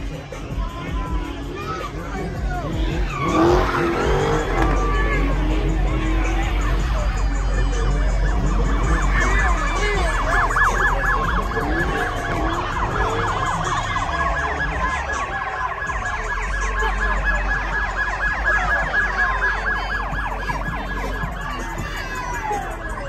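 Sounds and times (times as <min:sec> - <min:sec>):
siren yelping: 0:00.0 - 0:23.0.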